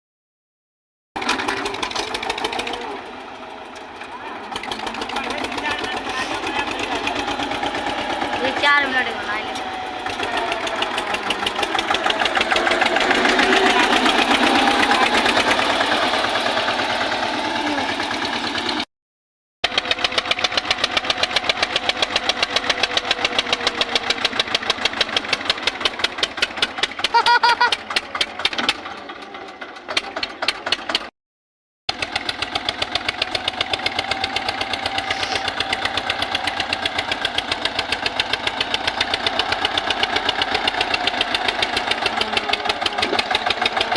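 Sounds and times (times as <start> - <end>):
tractor diesel engine chugging: 1.2 - 18.9, 19.7 - 31.1, 31.9 - 43.9.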